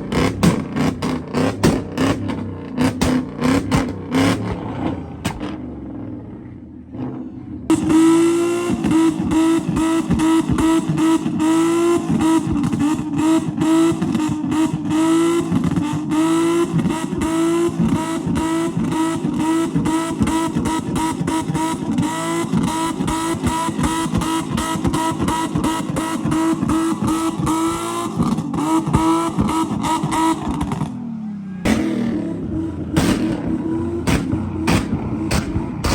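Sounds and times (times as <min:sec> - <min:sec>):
engine popping and crackling: 0:00.0 - 0:07.1, 0:08.7 - 0:31.0, 0:31.6 - 0:35.9
car engine at high revs: 0:00.0 - 0:35.9.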